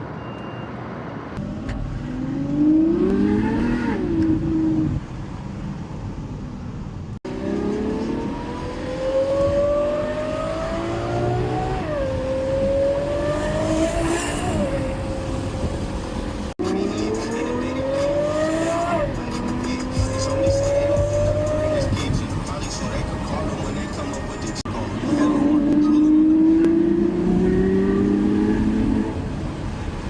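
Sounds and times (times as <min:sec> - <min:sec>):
car engine accelerating hard: 0:01.4 - 0:05.1, 0:07.2 - 0:30.0.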